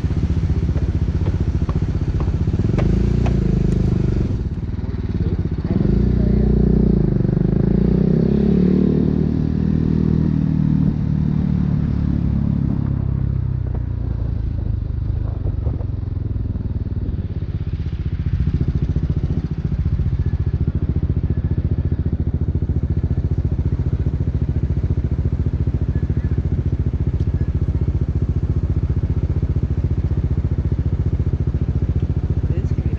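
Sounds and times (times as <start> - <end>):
motorcycle engine idling: 0.0 - 8.5, 10.9 - 32.9.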